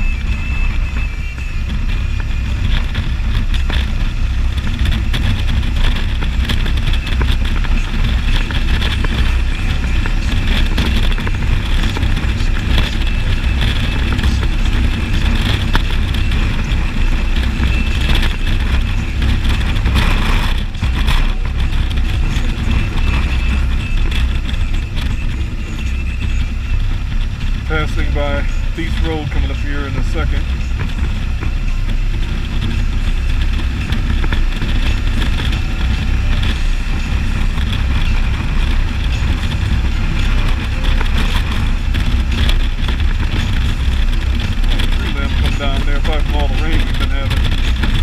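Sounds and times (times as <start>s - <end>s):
motorcycle engine running: 0.0s - 48.0s
road and air noise: 0.0s - 48.0s.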